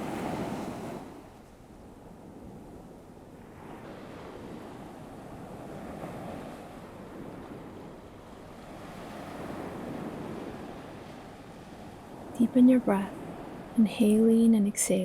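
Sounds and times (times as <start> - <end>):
waves washing on a shore: 0.0 - 15.0.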